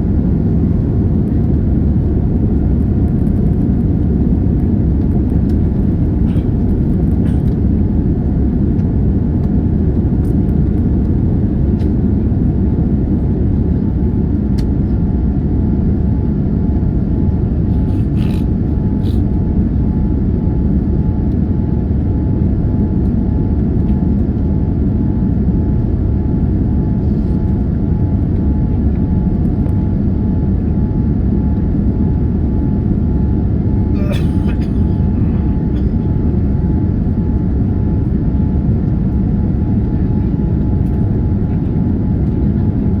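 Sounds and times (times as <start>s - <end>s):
airplane cabin roar: 0.0s - 43.0s.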